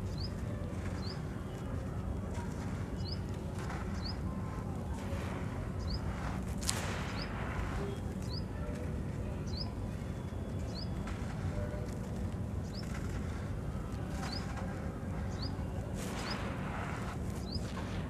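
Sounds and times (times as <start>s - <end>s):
low background noise: 0.0s - 18.0s
soil grains sifting: 0.1s - 10.1s, 10.7s - 18.0s.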